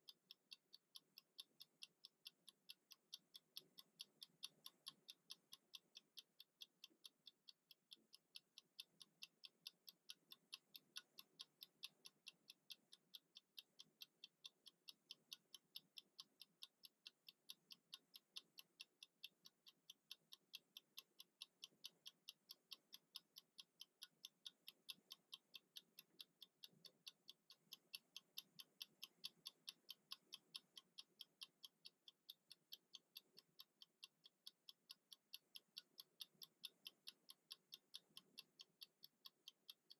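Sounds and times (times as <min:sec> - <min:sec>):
mechanical kitchen timer ticking: 0:00.0 - 0:39.9.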